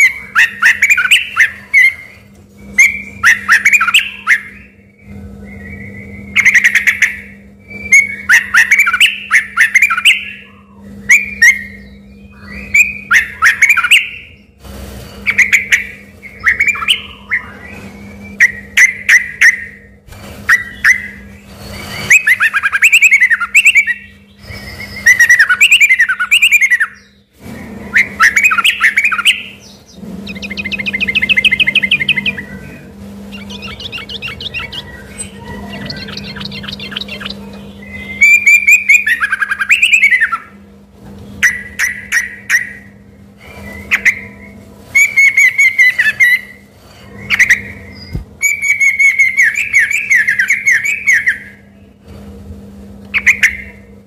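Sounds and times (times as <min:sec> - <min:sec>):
bulbul singing: 0:00.0 - 0:52.0, 0:53.1 - 0:53.9
low hum: 0:00.0 - 0:54.0.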